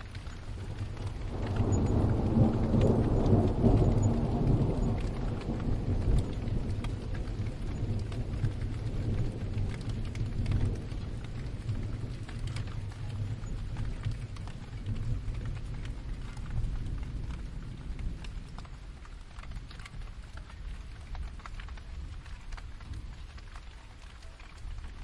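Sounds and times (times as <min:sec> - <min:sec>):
distant thunder rolling: 0:00.0 - 0:23.5
steady rain pattering: 0:00.0 - 0:25.0.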